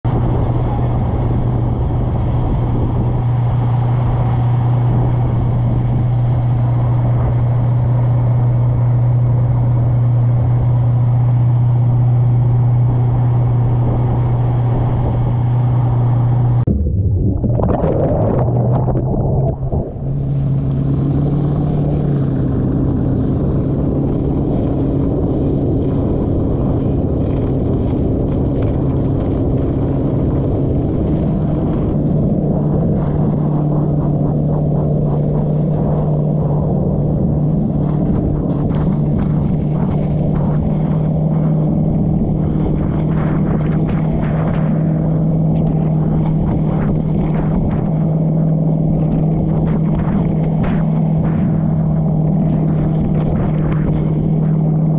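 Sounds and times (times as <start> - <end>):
boat engine droning: 0.0 - 54.9
water rushing and spray: 0.1 - 54.9.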